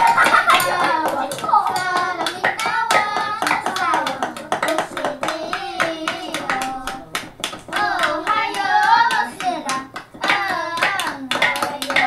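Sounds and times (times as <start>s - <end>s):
fast rhythmic sharp knocks: 0.0s - 12.0s
high-pitched voices singing: 0.0s - 12.0s.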